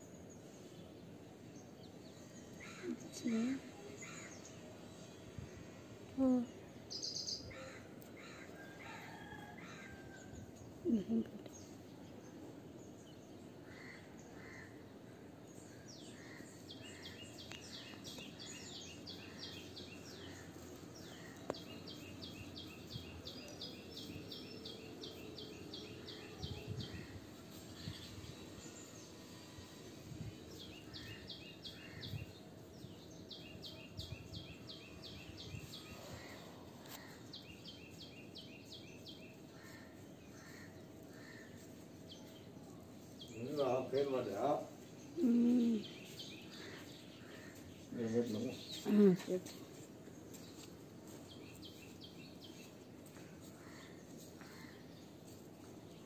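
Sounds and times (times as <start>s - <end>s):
faint outdoor background noise: 0.0s - 56.0s.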